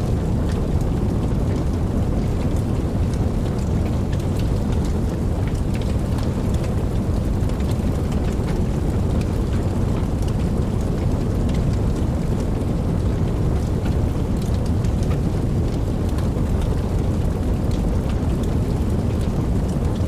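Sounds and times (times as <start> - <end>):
deep continuous rumble: 0.0 - 20.0
raindrops ticking: 0.0 - 20.0
steady rain falling: 0.0 - 20.0.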